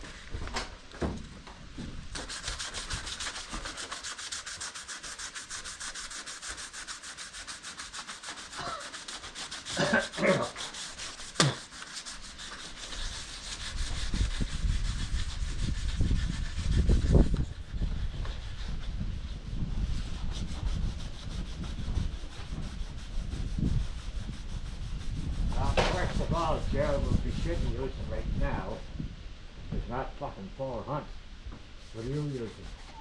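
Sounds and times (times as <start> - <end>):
sandpaper scratching on filler: 2.1 - 28.2, 31.8 - 33.0.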